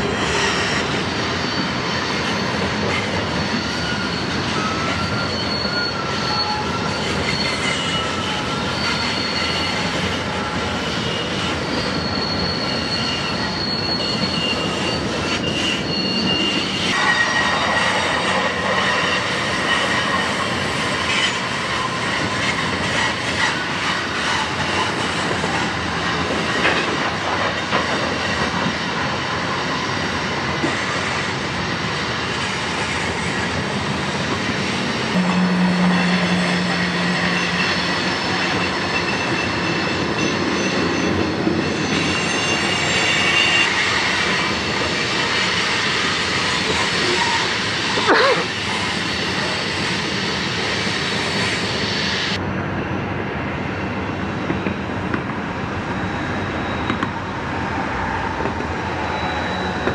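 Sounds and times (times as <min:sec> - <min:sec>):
freight train wheels rumbling: 0:00.0 - 0:59.9
high-pitched wheel squeal: 0:00.1 - 0:31.4, 0:32.4 - 0:52.4, 0:55.8 - 0:59.9.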